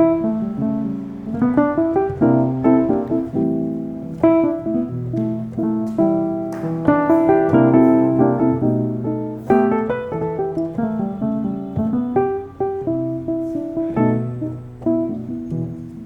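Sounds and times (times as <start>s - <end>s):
gentle solo piano: 0.0s - 16.0s.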